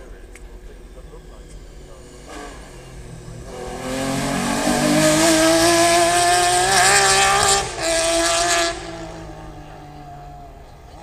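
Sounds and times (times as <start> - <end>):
car engine accelerating hard: 0.9 - 11.0.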